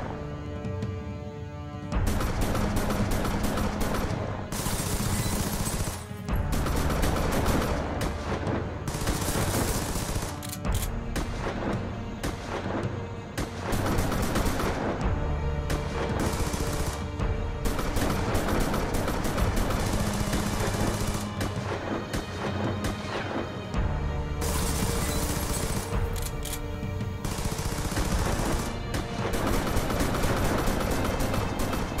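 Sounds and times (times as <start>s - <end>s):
tense dramatic music: 0.0s - 32.0s.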